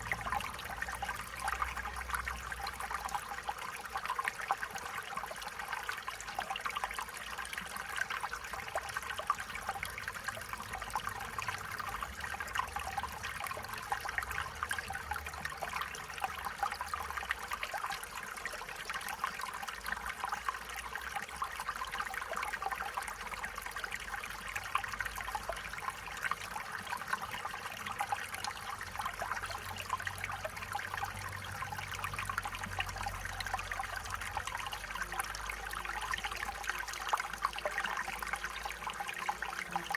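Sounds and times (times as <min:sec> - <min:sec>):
stream bubbling over stones: 0:00.0 - 0:39.9.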